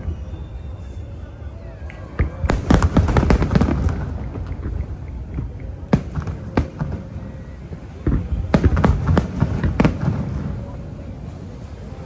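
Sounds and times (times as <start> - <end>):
low rumble and echo: 0.0 - 12.0
fireworks bangs: 2.1 - 12.0.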